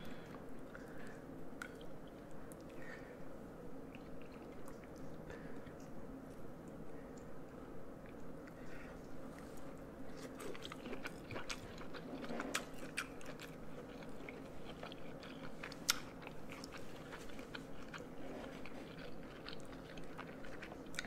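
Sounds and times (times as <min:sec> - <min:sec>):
person chewing food: 0:00.0 - 0:03.0, 0:03.8 - 0:21.0.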